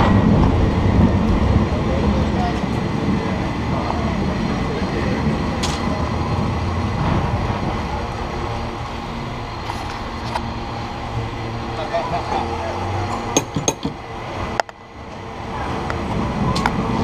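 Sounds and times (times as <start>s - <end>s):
cable car rumbling on rails: 0.0s - 17.0s.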